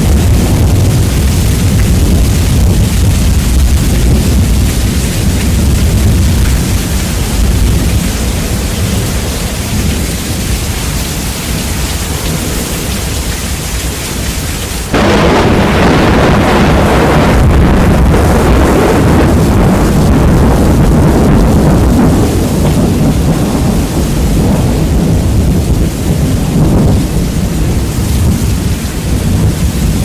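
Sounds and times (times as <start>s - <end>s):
heavy rain: 0.0s - 30.0s
thunder rumbling: 0.0s - 30.0s.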